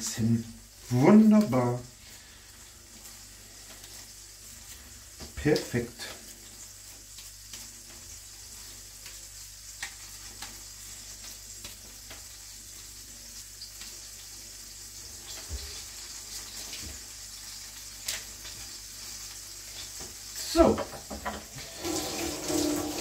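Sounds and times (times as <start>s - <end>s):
fat sizzling in a pot: 0.0s - 23.0s.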